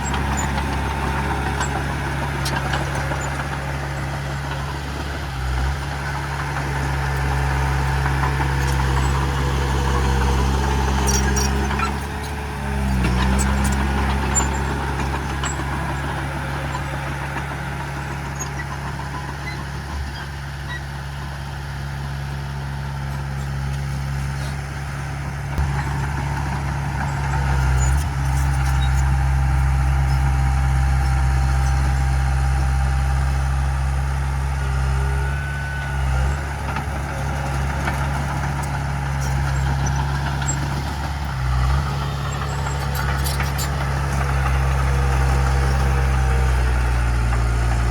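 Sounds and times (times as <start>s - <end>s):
heavy diesel engine droning: 0.0s - 47.9s.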